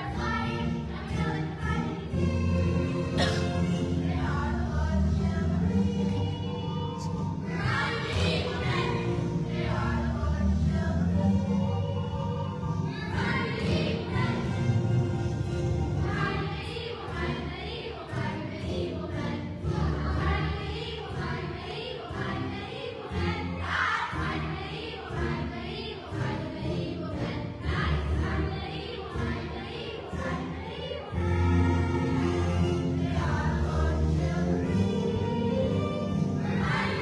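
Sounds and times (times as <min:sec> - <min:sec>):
children's choir singing: 0:00.0 - 0:37.0
musical accompaniment: 0:00.0 - 0:37.0.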